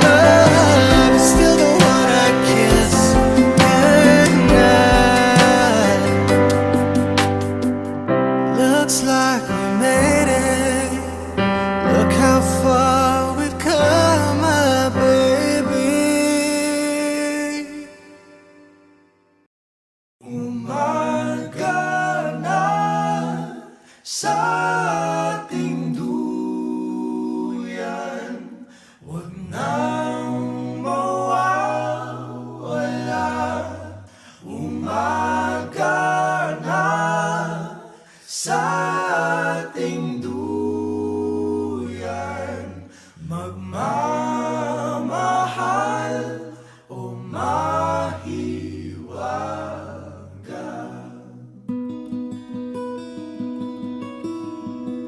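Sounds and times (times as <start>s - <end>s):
unaccompanied vocal group singing: 0.0s - 7.6s, 8.5s - 18.2s, 20.2s - 51.5s.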